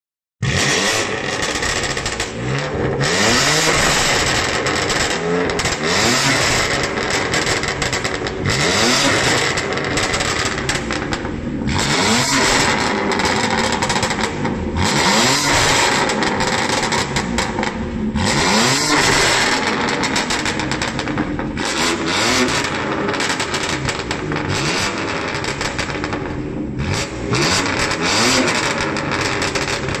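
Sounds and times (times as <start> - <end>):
car engine revving hard: 0.4 - 30.0.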